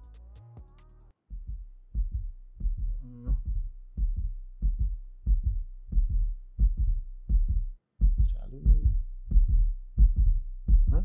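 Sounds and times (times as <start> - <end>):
heartbeat double thump: 1.3 - 11.0.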